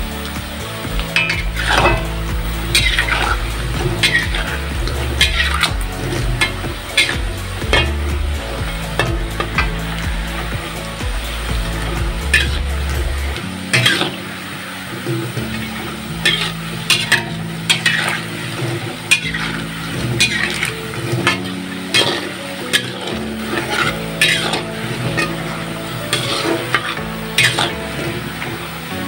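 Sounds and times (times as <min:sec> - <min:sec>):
food sizzling in hot oil: 0:00.0 - 0:29.0
metal spatula scraping a wok: 0:01.1 - 0:28.7.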